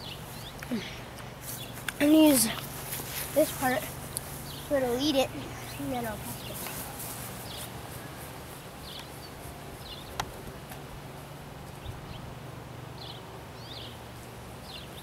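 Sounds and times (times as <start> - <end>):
small birds chirping: 0.0 - 10.4, 12.9 - 15.0
steady low hum: 0.0 - 15.0.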